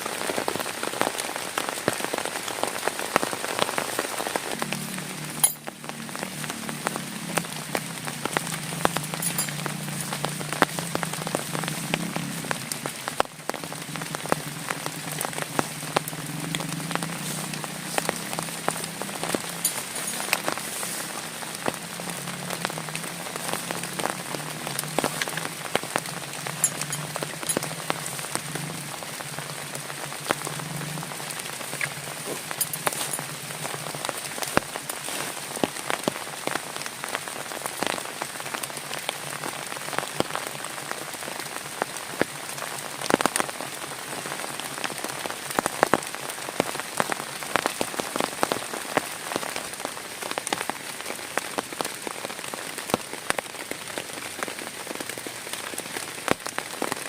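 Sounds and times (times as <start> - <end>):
heavy rain falling: 0.0 - 57.0
sharp raindrop hits: 0.0 - 57.0.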